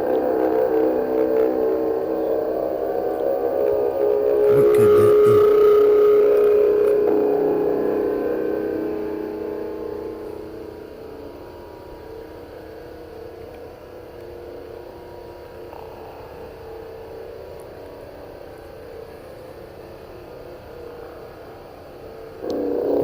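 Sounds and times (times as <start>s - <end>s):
droning hum with held tones: 0.0s - 23.0s.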